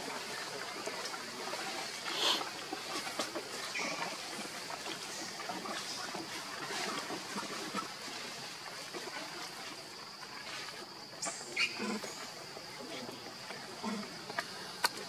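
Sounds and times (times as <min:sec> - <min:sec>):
faint animal calls and clicks: 0:00.0 - 0:15.0
steady high-pitched hiss: 0:00.0 - 0:15.0.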